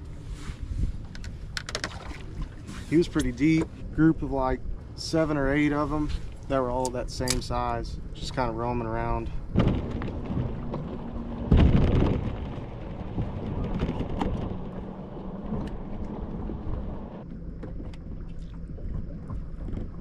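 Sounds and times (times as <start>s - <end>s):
wind buffeting microphone: 0.0s - 17.3s
low steady hum: 0.0s - 20.0s
water slapping on boat: 1.5s - 20.0s.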